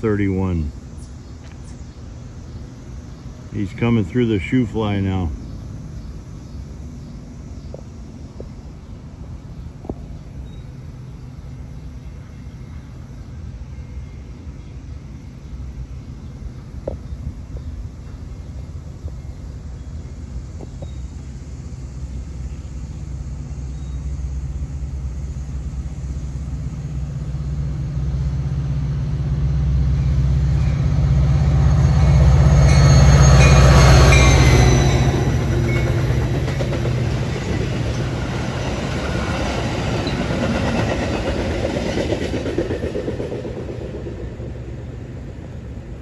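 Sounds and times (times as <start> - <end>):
diesel locomotive rumble: 0.0 - 46.0
train wheels on rails: 0.0 - 46.0.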